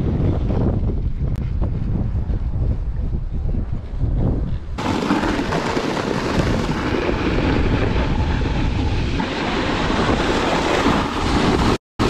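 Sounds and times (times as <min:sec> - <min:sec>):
wind on the microphone: 0:00.0 - 0:11.8.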